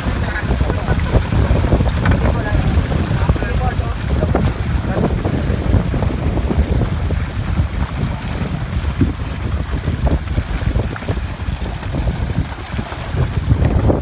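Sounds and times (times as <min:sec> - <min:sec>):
water splashing and sloshing: 0:00.0 - 0:14.0
wind rumbling on microphone: 0:00.0 - 0:14.0.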